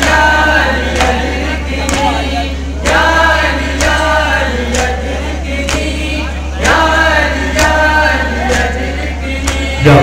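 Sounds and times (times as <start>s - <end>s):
men chanting through a loudspeaker: 0.0s - 10.0s
steady low hum: 0.0s - 10.0s.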